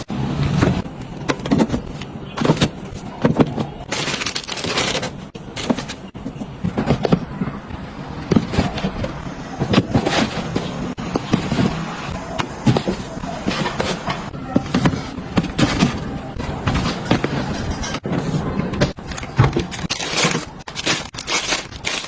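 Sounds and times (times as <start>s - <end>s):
food containers knocking and clicking: 0.4s - 22.0s
packages rustling: 0.6s - 7.5s, 8.2s - 17.5s, 18.1s - 22.0s.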